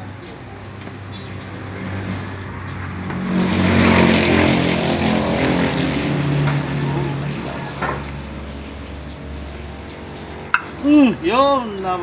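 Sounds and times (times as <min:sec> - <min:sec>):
passing vehicle engine hum: 0:00.0 - 0:12.0.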